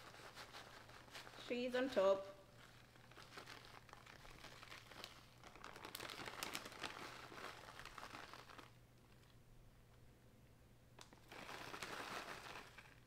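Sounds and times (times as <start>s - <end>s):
cheese crinkling and rustling: 0.0s - 9.4s, 11.0s - 13.0s.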